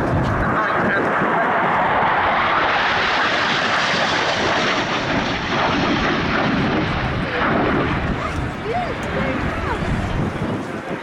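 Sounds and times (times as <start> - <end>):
fighter jet engine roar: 0.0 - 11.0.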